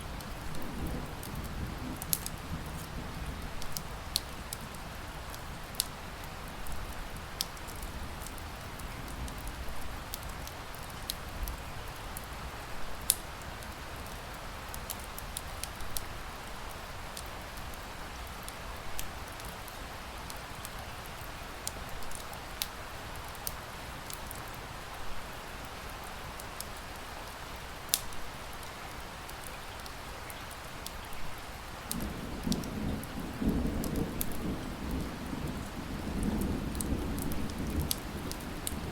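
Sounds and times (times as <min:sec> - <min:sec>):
steady rain: 0:00.0 - 0:38.9
wood fire crackling: 0:00.0 - 0:38.9.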